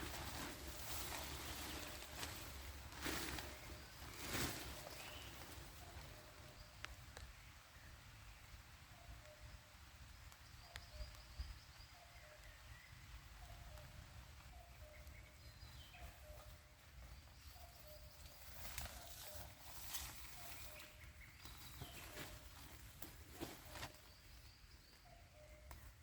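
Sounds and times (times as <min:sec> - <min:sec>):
crackling rustle: 0:00.0 - 0:07.5, 0:10.0 - 0:26.0.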